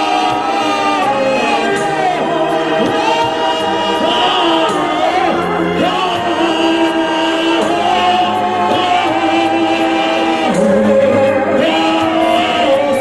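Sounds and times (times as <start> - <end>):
choir singing gospel: 0.0 - 13.0.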